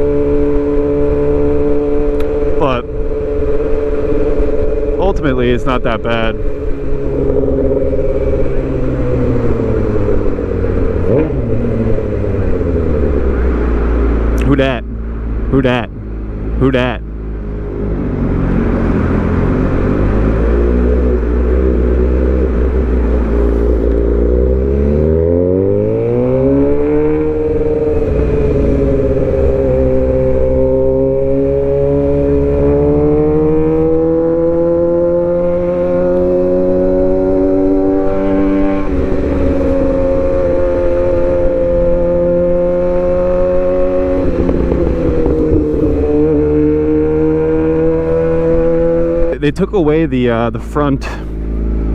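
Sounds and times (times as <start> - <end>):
motorcycle engine while riding: 0.0 - 51.9.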